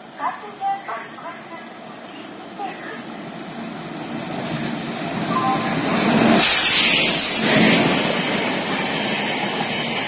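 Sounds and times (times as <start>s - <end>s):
electric locomotive passing: 0.0s - 10.0s.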